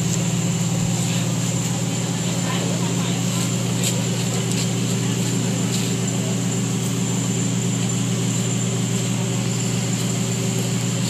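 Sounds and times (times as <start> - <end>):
ventilation fans droning: 0.0 - 11.0.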